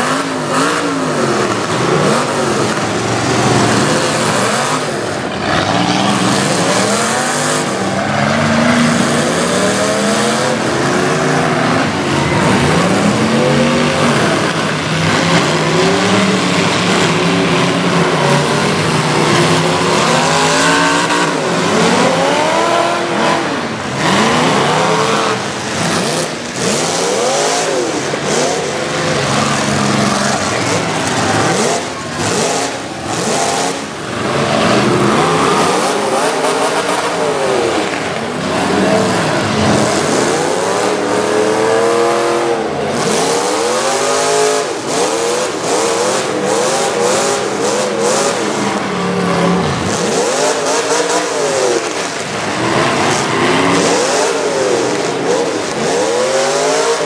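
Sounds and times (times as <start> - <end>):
car engines revving hard: 0.0 - 57.0
cars crashing: 0.0 - 57.0.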